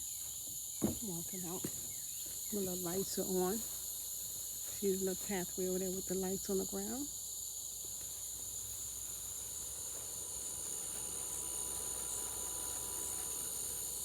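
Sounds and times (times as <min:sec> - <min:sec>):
crickets chirping chorus: 0:00.0 - 0:14.0.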